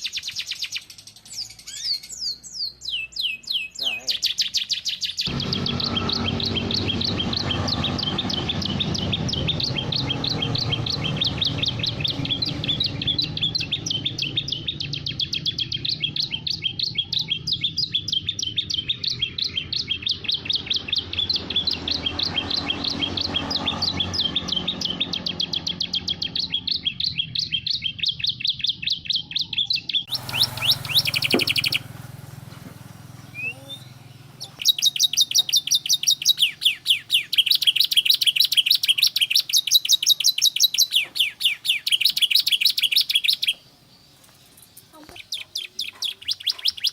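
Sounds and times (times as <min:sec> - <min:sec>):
canary singing: 0:00.0 - 0:46.9.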